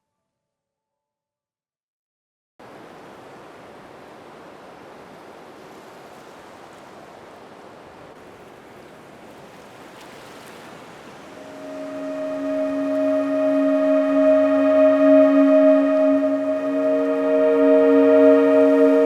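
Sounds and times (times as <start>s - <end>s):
ocean surf washing: 2.7s - 19.0s.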